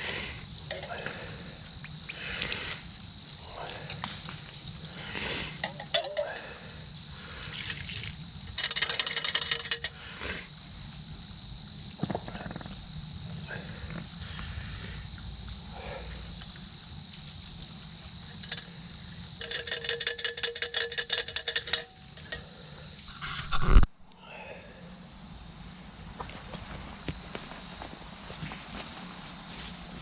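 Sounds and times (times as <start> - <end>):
high insect drone: 0.0 - 30.0.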